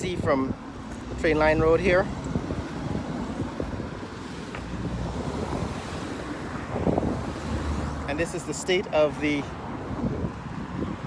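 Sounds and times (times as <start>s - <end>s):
wind buffeting microphone: 0.0s - 8.1s, 9.4s - 11.0s
road traffic rumble: 0.0s - 11.0s.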